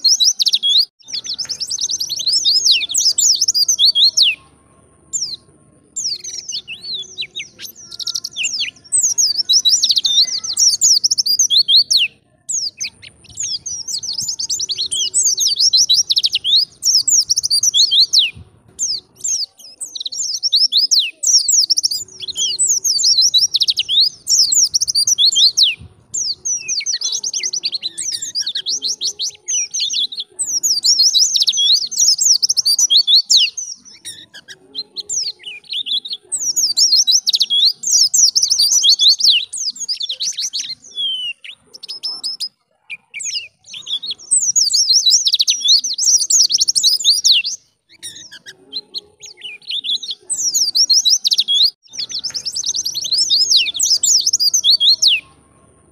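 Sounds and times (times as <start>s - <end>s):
bird twittering song: 0.0s - 55.9s.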